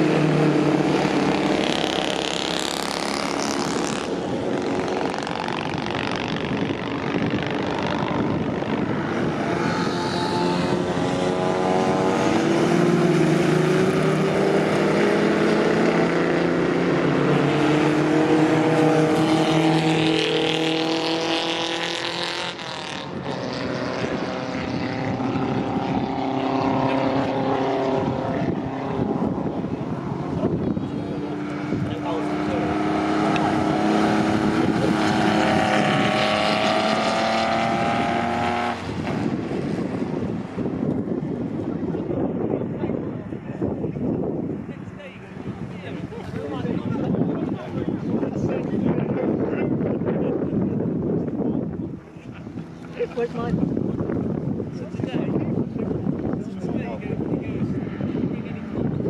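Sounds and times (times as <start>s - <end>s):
racing car engines passing: 0.0s - 59.0s.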